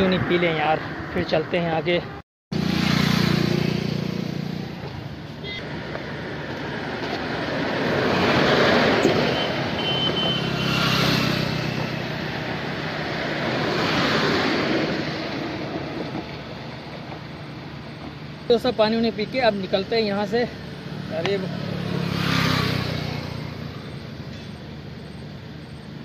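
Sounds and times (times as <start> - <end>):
vehicles passing on highway: 0.0 - 26.0.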